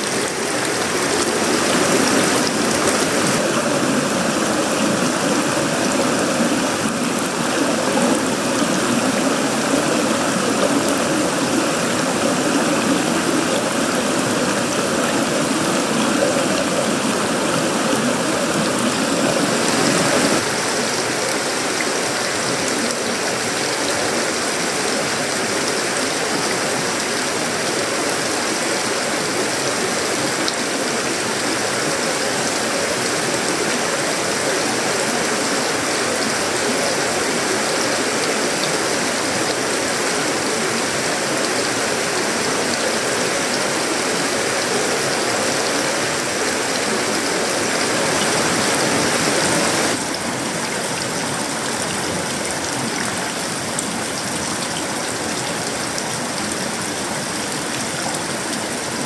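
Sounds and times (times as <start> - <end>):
heavy rain on metal roof: 0.0 - 59.0.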